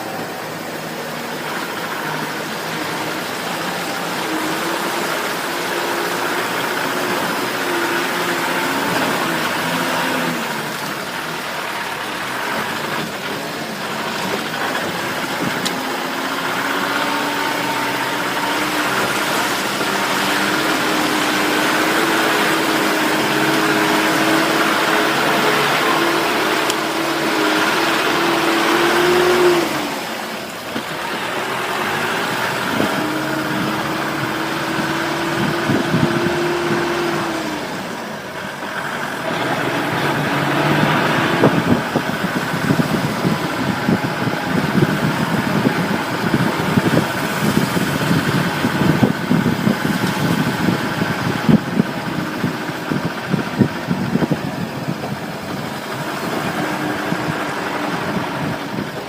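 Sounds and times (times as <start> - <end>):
vehicle engine under load: 0.0 - 59.0.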